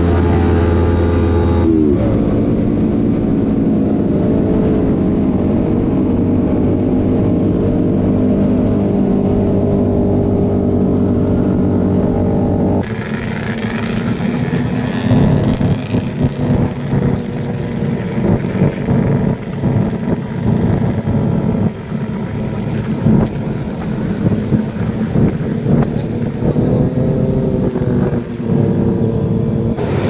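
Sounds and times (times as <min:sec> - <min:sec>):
motorcycle engine cruising: 0:00.0 - 0:30.0
motorcycles of a group: 0:00.0 - 0:30.0
wind on microphone: 0:00.0 - 0:30.0.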